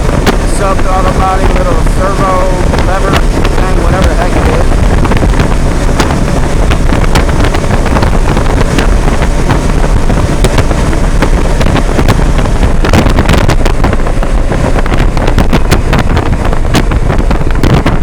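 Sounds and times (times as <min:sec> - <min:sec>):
microphone crackles: 0:00.0 - 0:18.0
motorcycle engine running: 0:00.0 - 0:18.0
wind buffeting microphone: 0:00.0 - 0:18.0.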